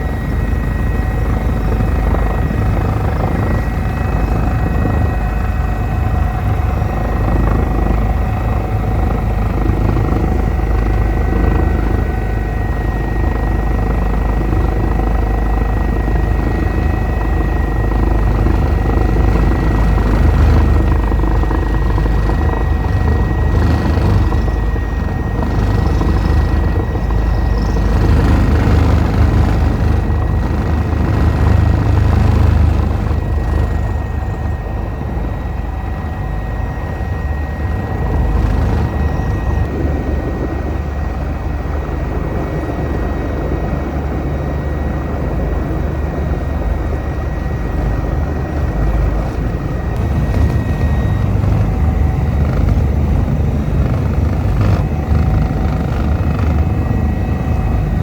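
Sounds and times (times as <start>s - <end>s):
constant high whine: 0.0s - 58.0s
helicopter rotor and engine drone: 0.0s - 58.0s.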